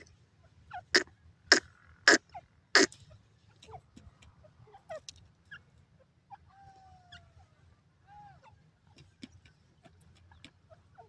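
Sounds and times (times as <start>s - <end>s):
francolin harsh clucking calls: 0.0s - 11.0s.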